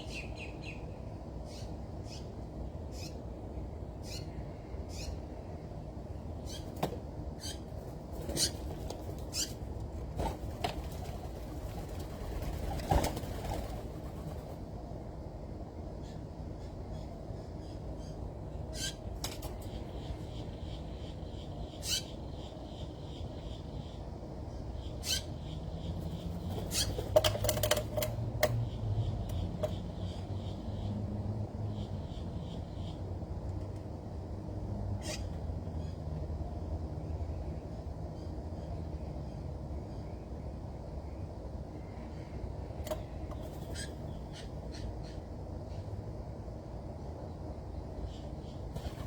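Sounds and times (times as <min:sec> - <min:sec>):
small birds calling: 0:00.0 - 0:14.5, 0:15.8 - 0:33.8, 0:35.0 - 0:36.1, 0:37.0 - 0:46.2, 0:47.0 - 0:49.0.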